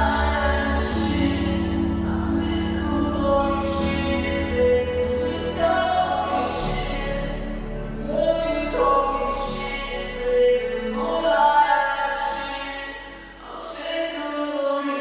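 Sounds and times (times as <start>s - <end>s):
low steady bass: 0.0s - 14.6s.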